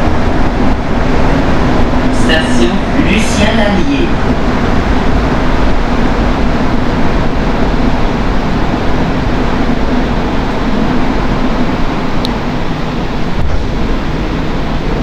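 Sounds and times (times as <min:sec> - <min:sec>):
low hum: 0:00.0 - 0:15.0
metro train rumble: 0:00.0 - 0:15.0.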